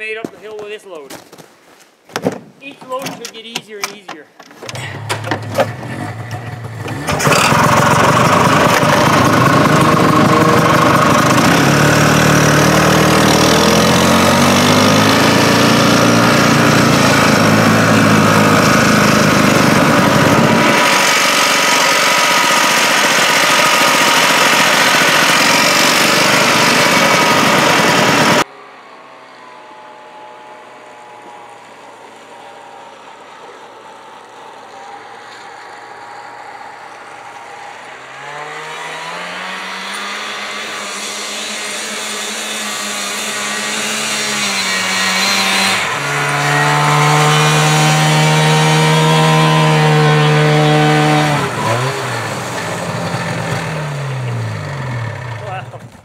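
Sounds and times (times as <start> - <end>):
snowmobile engine revving: 4.7 - 55.9.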